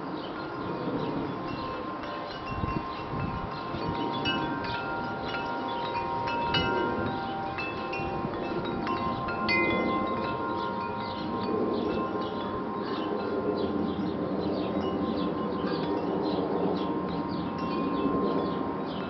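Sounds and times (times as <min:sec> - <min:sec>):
wind chimes ringing: 0:00.0 - 0:19.0.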